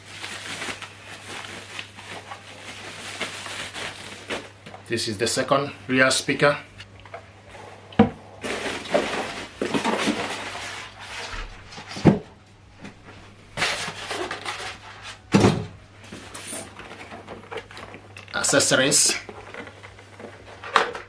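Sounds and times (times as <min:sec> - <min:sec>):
packaging rustling: 0:00.0 - 0:21.0.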